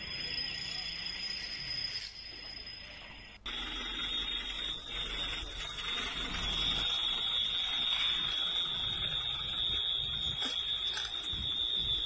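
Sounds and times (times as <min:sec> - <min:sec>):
high-pitched alarm tone: 0:00.0 - 0:12.0.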